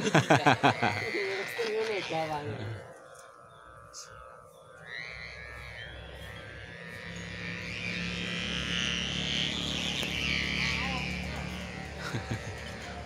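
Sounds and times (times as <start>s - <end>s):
kite hummer droning in wind: 0.0s - 13.0s.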